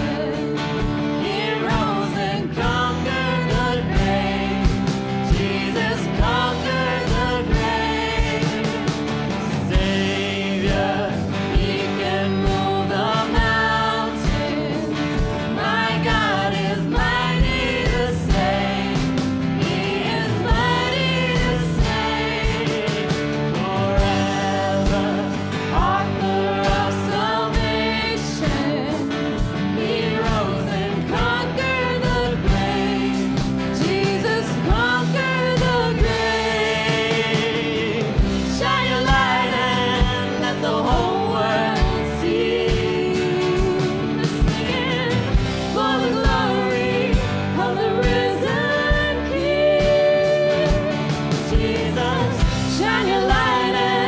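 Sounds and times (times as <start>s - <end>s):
steady drum beat: 0.0s - 54.0s
worship song with band: 0.0s - 54.0s.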